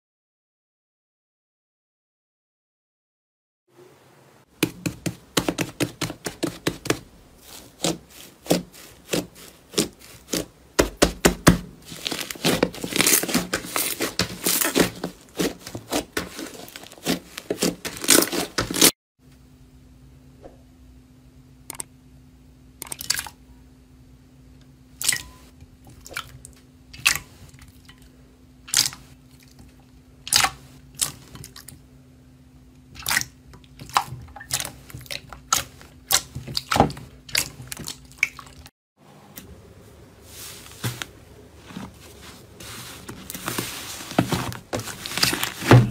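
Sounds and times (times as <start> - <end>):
low steady hum: 3.8 - 45.9.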